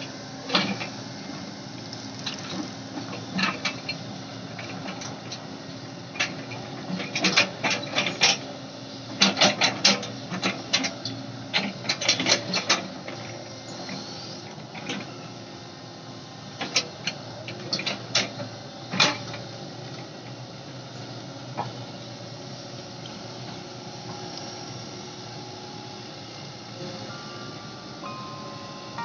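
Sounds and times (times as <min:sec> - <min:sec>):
excavator engine hum: 0:00.0 - 0:29.0.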